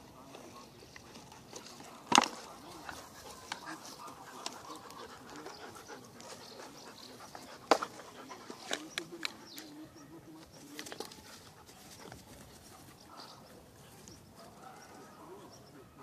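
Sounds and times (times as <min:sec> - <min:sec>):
dogs panting: 0:00.0 - 0:15.9.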